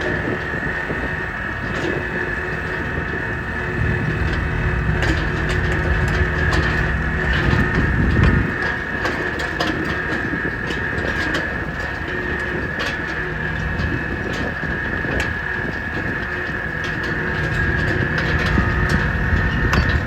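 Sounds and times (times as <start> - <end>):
low machine hum: 0.0 - 20.0
machine high whine: 0.0 - 20.0
clicks and rattles: 2.7 - 20.0.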